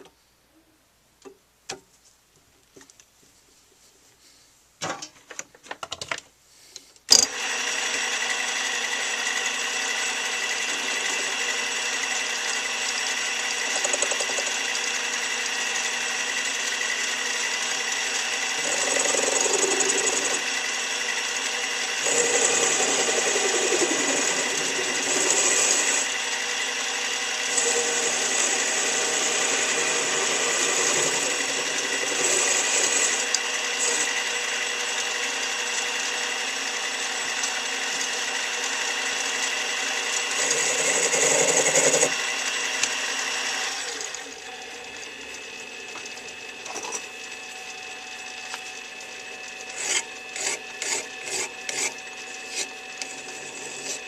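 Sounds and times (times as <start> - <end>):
machine tool motor whining: 7.1 - 54.0.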